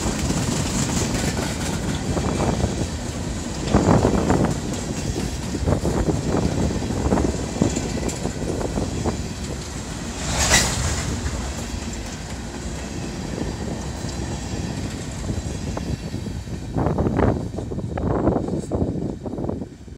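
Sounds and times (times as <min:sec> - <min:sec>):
train wheels rumbling and clacking: 0:00.0 - 0:19.9.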